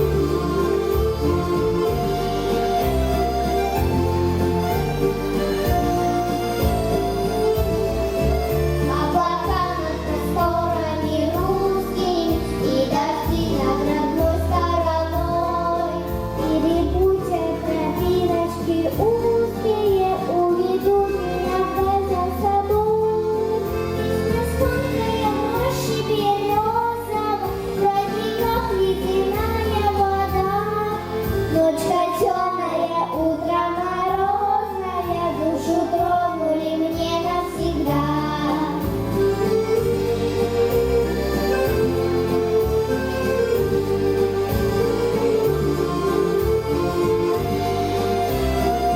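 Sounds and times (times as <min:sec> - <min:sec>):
backing track with bass line: 0:00.0 - 0:48.9.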